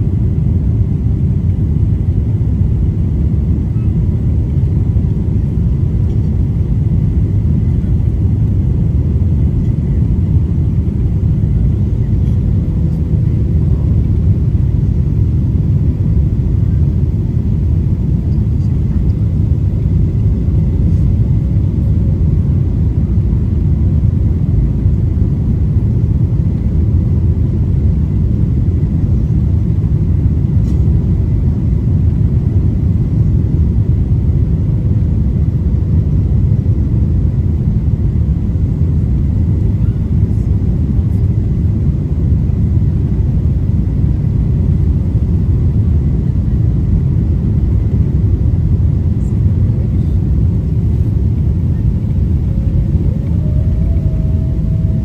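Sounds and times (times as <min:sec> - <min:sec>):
faint steady hum: 0:00.0 - 0:55.0
jet engines rumble: 0:00.0 - 0:55.0.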